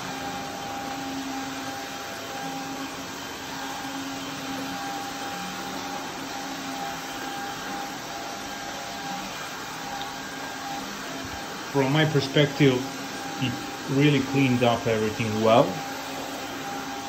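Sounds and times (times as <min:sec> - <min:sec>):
vacuum cleaner whirring: 0:00.0 - 0:17.0.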